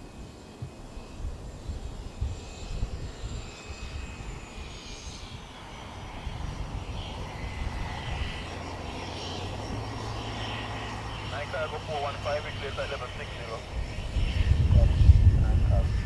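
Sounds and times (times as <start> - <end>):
turboprop engine hum with whine: 0.0 - 16.0.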